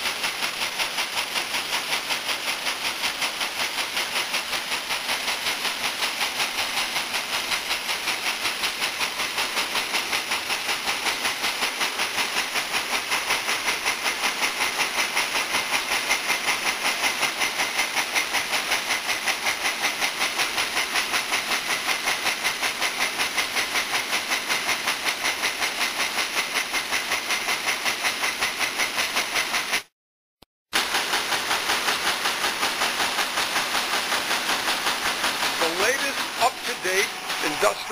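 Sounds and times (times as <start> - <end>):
quilting machine clatter: 0.0 - 29.9, 30.8 - 37.9.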